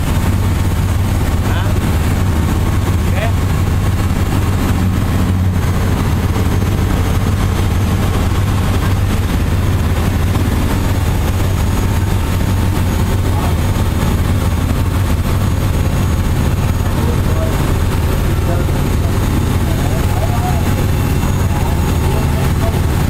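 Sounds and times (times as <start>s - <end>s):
large engine humming: 0.0s - 23.0s.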